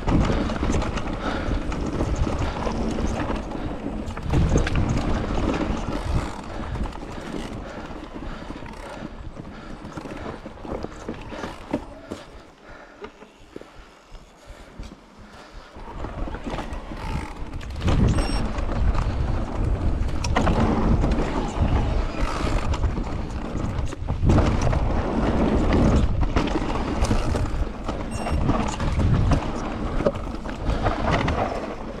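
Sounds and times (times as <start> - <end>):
wind buffeting microphone: 0.0 - 11.5, 15.7 - 32.0
bike knocks and rattles: 0.0 - 13.2, 14.5 - 32.0
bike tyre rumble on dirt: 0.0 - 32.0.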